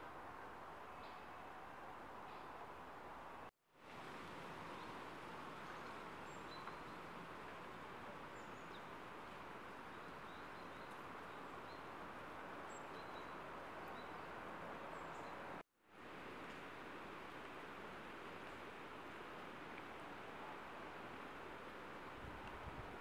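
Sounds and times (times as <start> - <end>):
soft woodland hiss: 0.0 - 23.0.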